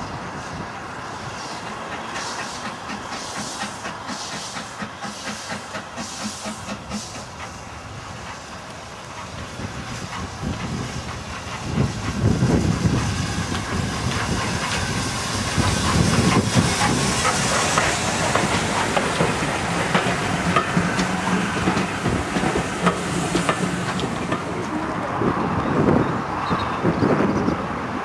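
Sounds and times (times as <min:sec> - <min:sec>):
steam locomotive hissing steam: 0:00.0 - 0:28.0
coach wheels clattering over rail joints: 0:01.4 - 0:27.6.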